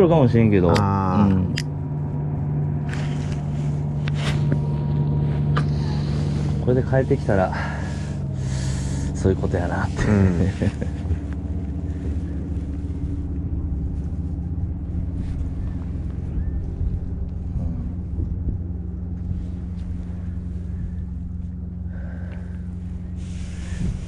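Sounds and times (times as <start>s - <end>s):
motor humming steadily: 0.0s - 24.0s.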